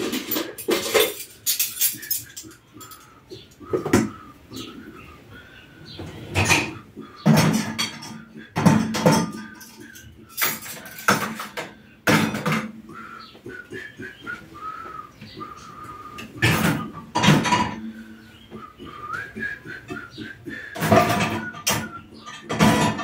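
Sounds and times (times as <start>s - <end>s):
dishes clattering: 0.0s - 4.8s, 5.9s - 14.4s, 15.3s - 23.0s.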